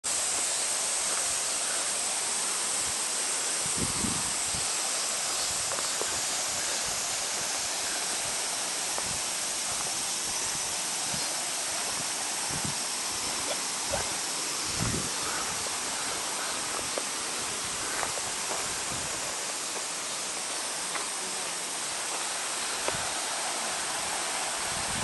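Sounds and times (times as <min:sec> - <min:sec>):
stream water over rocks: 0:00.1 - 0:25.0.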